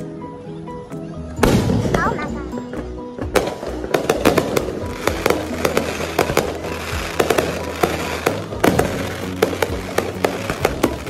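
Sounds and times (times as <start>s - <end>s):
fireworks bangs: 1.4s - 11.0s
fireworks crackling: 1.4s - 11.0s.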